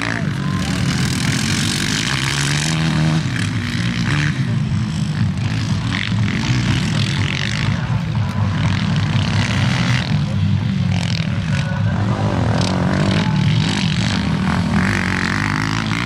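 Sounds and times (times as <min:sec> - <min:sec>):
small engines revving: 0:00.0 - 0:16.0.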